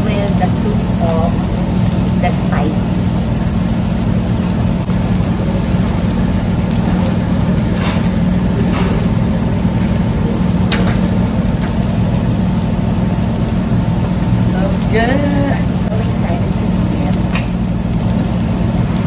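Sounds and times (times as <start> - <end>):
food sizzling on a griddle: 0.0 - 19.0
grill hissing: 0.0 - 19.0
low hum: 0.0 - 19.0.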